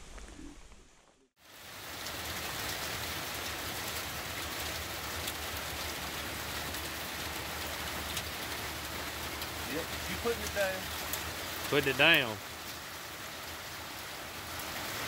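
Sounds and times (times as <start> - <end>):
heavy rain falling: 1.4 - 15.0
rain drops ticking: 1.4 - 15.0.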